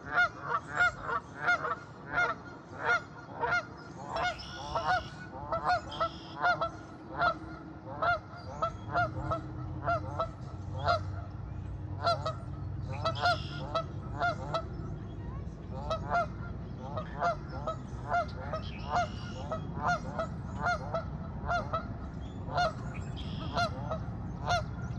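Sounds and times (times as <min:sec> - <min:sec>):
geese honking: 0:00.0 - 0:15.0, 0:15.7 - 0:24.9.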